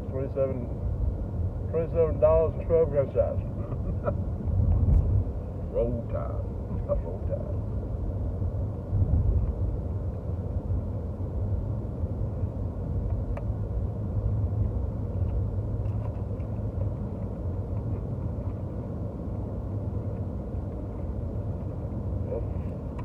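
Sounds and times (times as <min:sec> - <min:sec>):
car cabin low rumble: 0:00.0 - 0:23.0.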